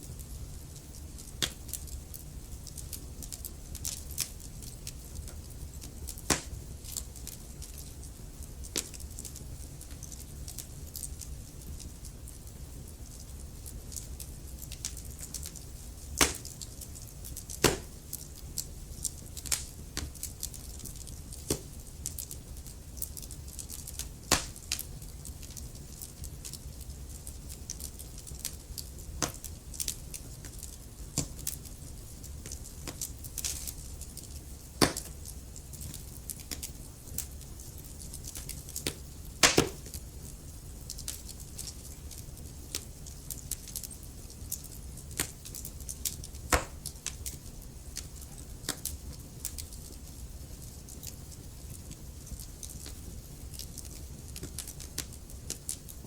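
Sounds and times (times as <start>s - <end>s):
fire popping and snapping: 0.0s - 56.0s
wood fire crackling: 0.0s - 56.0s.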